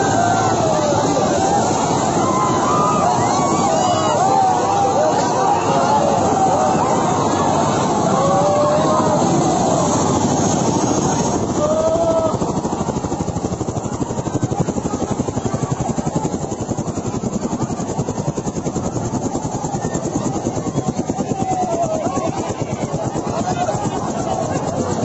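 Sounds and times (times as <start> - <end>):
crowd shouting: 0.0 - 25.0
helicopter rotor chopping: 0.0 - 25.0.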